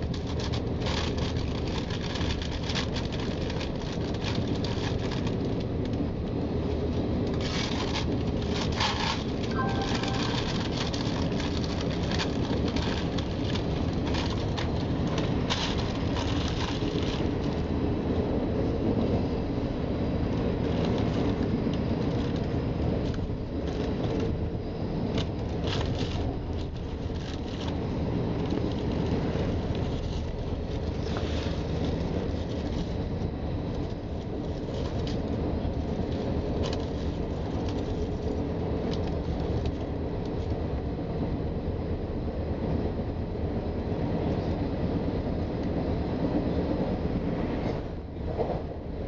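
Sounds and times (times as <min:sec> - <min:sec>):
train wheels rumbling on rails: 0:00.0 - 0:40.5, 0:43.8 - 0:49.0.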